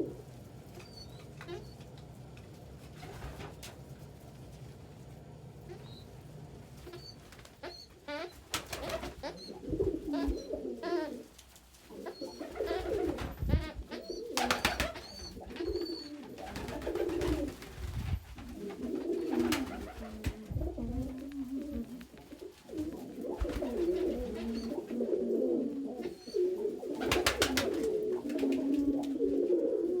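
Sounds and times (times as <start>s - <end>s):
pigeons cooing: 0.0s - 3.7s, 5.6s - 30.0s.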